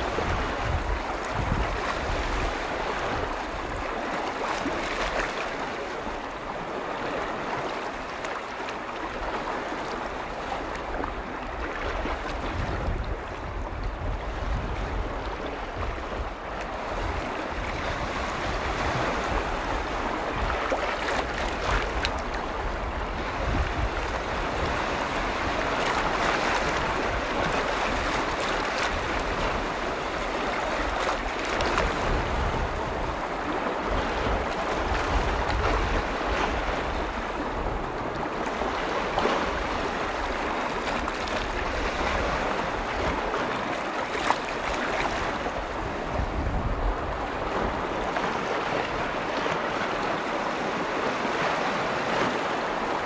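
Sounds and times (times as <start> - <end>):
lake waves lapping: 0.0 - 53.0
wind rumble on microphone: 0.0 - 53.0.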